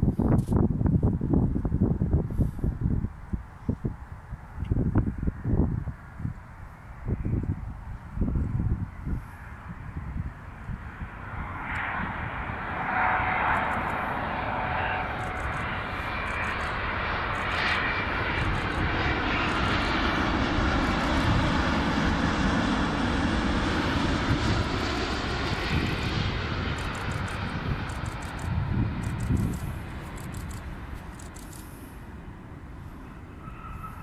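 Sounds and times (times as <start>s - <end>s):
jet airliner rumble and whine: 0.0s - 34.0s.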